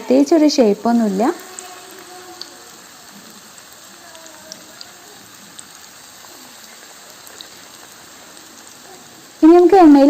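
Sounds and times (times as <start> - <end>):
batter sizzling in hot oil: 0.0 - 10.0
oil popping: 0.8 - 9.4.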